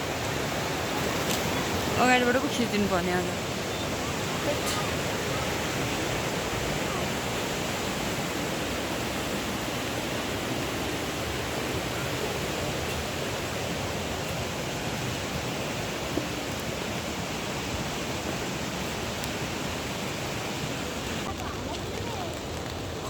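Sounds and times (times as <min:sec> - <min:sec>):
rushing stream water: 0:00.0 - 0:23.0.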